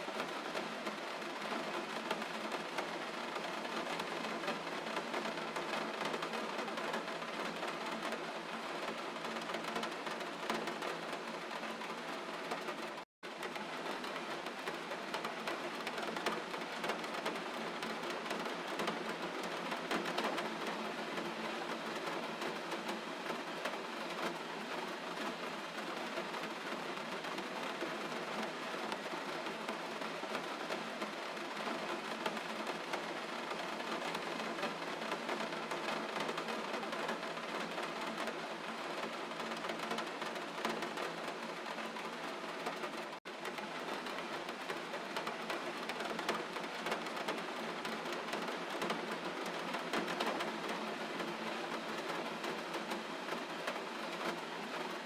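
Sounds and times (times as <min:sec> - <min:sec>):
gentle rain patter: 0:00.0 - 0:55.0.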